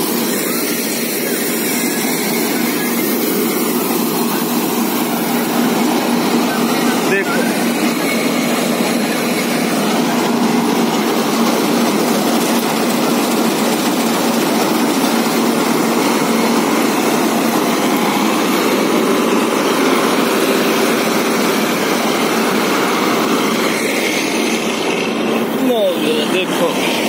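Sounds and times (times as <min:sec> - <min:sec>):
combine harvester droning: 0:00.0 - 0:27.0.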